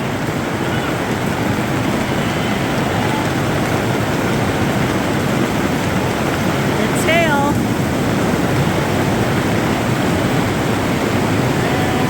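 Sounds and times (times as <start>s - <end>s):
heavy rain on roof: 0.0s - 12.0s.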